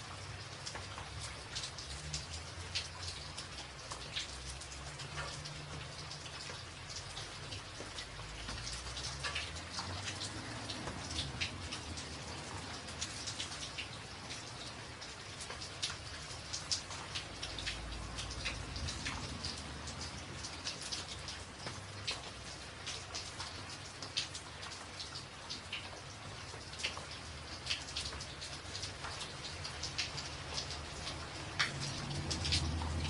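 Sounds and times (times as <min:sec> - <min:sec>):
rain on a tin roof: 0:00.0 - 0:33.0.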